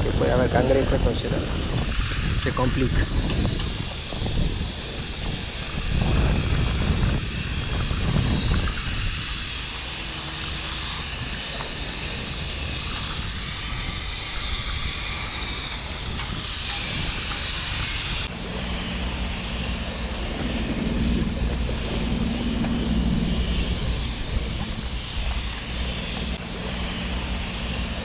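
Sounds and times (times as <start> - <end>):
low drone with held tones: 0.0 - 28.0
low mechanical rumble: 0.0 - 28.0.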